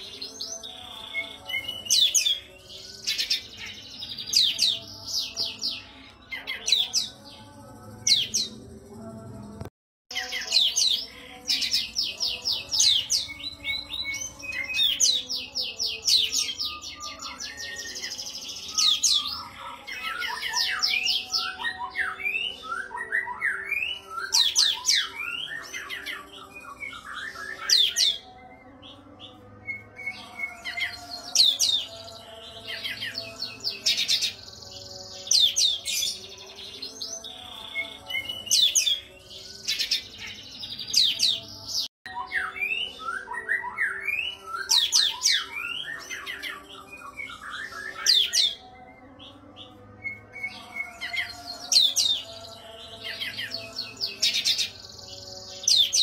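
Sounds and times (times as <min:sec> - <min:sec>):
bird singing chirps and whistles: 0:00.0 - 0:08.6, 0:10.1 - 0:56.0.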